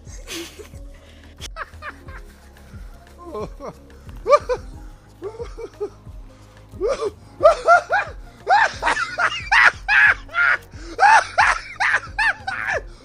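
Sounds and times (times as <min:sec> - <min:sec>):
person laughing: 0:00.0 - 0:00.8, 0:01.4 - 0:02.3, 0:03.2 - 0:06.1, 0:06.8 - 0:12.9
background music: 0:00.0 - 0:13.0.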